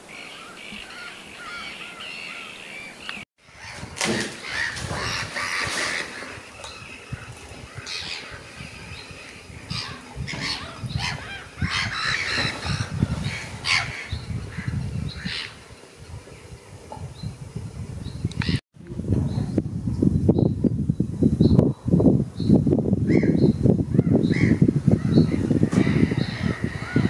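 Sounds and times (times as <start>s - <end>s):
birds calling: 0.0s - 18.6s, 22.4s - 27.0s.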